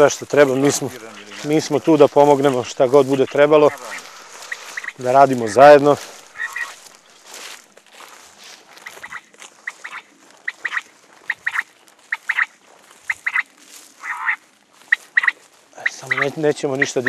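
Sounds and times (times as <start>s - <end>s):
electronic quail calls: 0.0s - 6.9s, 8.8s - 12.5s, 13.1s - 17.0s.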